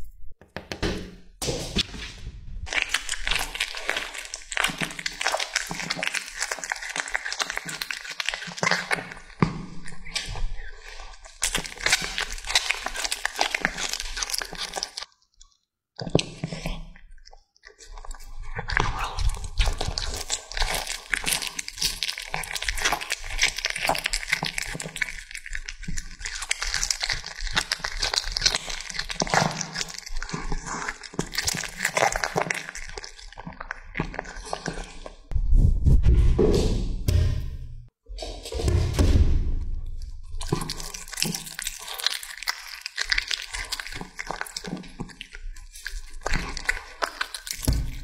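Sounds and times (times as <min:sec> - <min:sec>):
cat chewing raw meat: 0:02.7 - 0:15.1, 0:16.0 - 0:35.3, 0:40.0 - 0:48.0.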